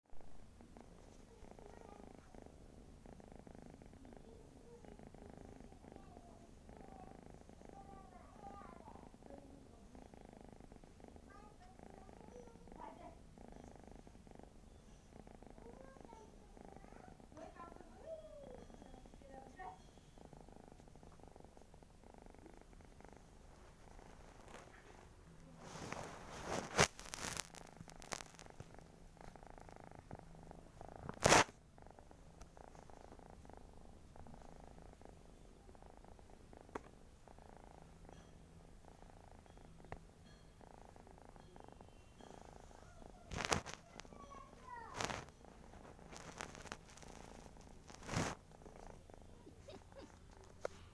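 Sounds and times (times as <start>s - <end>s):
cat snoring: 0.4s - 24.9s, 25.6s - 44.0s, 44.6s - 50.9s.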